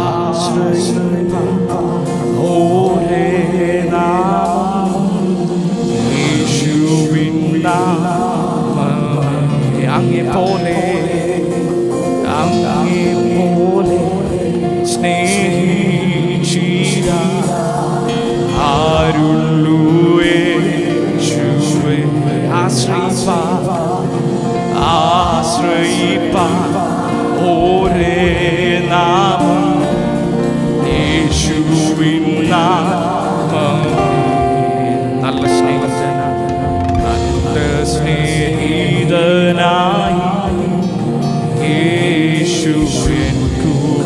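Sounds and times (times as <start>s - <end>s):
people singing with vibrato: 0.0s - 44.0s
sustained keyboard chords: 0.0s - 44.0s.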